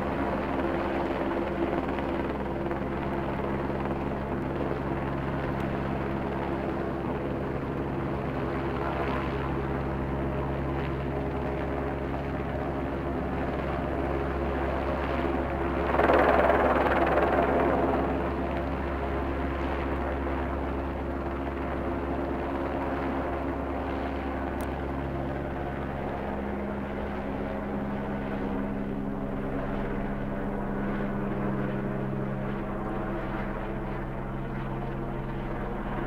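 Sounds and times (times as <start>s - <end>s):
helicopter hovering: 0.0s - 36.0s.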